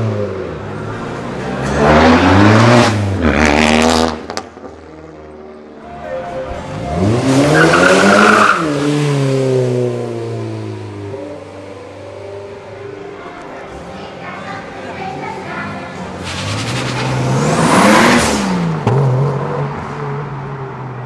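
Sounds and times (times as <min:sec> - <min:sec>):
car engine revving: 0:00.0 - 0:05.8, 0:06.6 - 0:12.8, 0:15.6 - 0:20.5.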